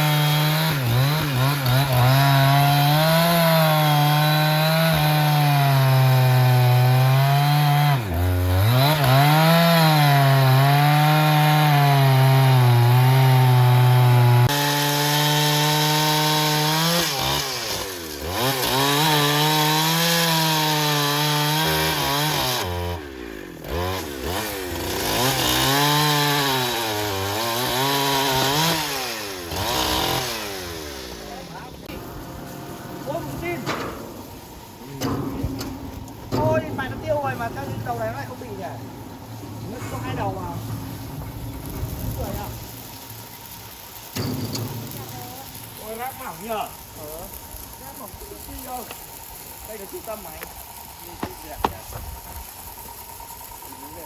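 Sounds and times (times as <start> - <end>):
motor saw cutting log: 0.0 - 54.0.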